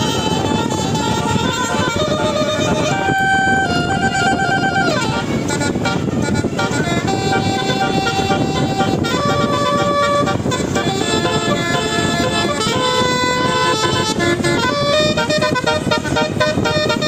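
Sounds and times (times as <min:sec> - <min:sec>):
traffic noise: 0:00.0 - 0:17.0
vehicle horns playing notes: 0:00.0 - 0:17.0.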